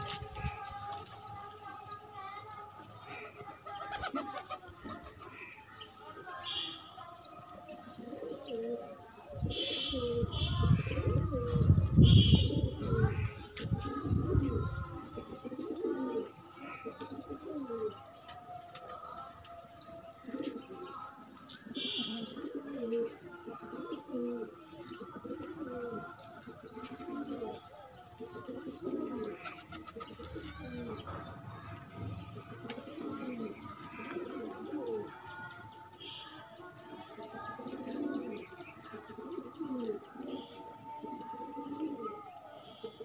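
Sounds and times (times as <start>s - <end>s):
pigeons cooing: 0.0s - 6.8s, 7.4s - 43.0s.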